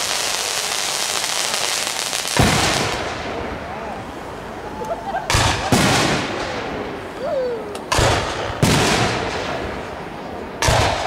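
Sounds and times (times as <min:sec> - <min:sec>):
fireworks booming with echo: 0:00.0 - 0:11.0.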